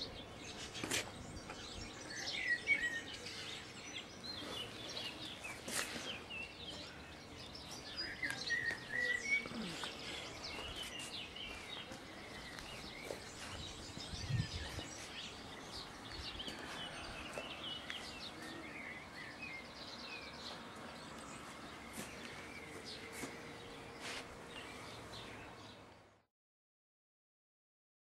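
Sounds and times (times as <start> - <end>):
small birds chirping: 0.0 - 26.2.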